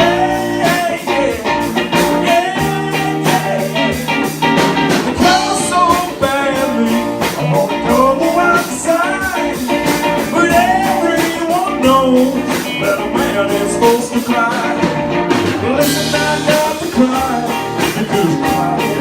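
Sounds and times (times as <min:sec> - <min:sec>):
person singing: 0:00.0 - 0:19.0
soul band with guitar and drums: 0:00.0 - 0:19.0.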